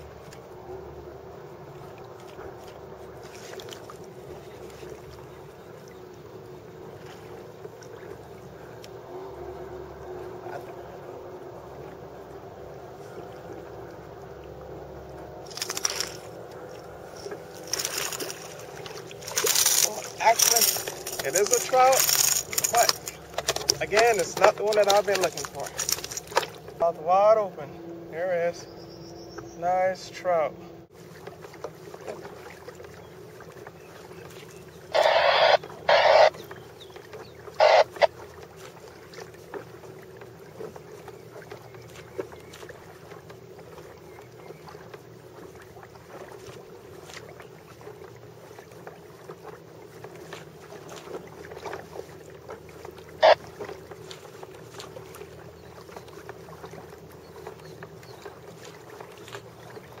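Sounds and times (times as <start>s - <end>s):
water around kayak: 0.0s - 60.0s.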